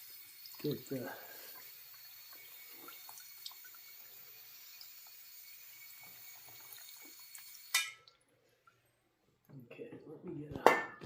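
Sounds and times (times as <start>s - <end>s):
liquid trickling and dripping: 0.0s - 9.6s.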